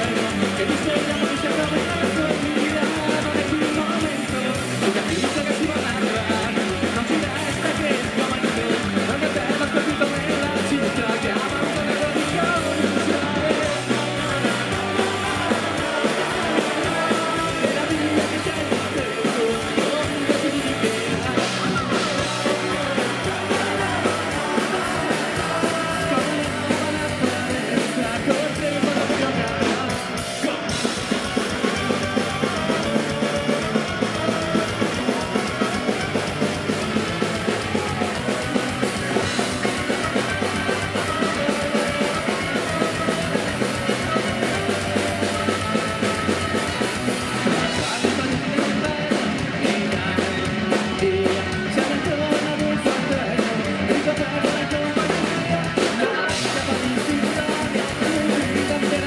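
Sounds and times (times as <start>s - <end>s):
drum kit fast beat: 0.0s - 59.0s
ska-punk band playing: 0.0s - 59.0s.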